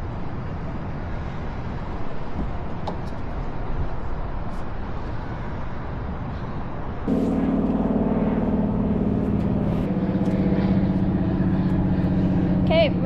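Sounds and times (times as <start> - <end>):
rumbling outdoor background noise: 0.0 - 13.0.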